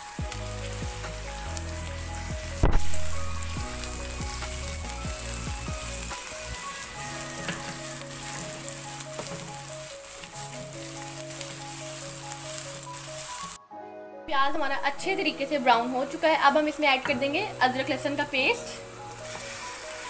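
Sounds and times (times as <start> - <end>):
onions sizzling in hot oil: 0.0 - 13.6, 14.4 - 20.0.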